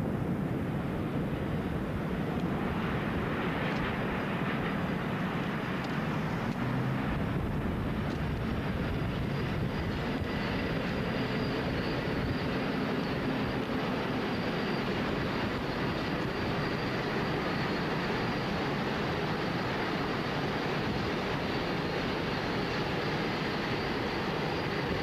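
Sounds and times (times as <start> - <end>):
faint steady whine: 0.0 - 25.0
train wheels rumbling on rails: 1.0 - 25.0.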